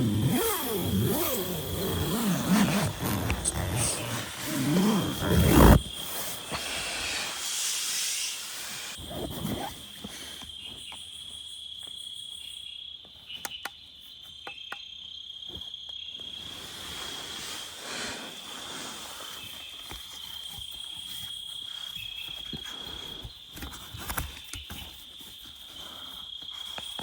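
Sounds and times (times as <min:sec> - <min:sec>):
insect chorus trilling: 0:00.0 - 0:27.0.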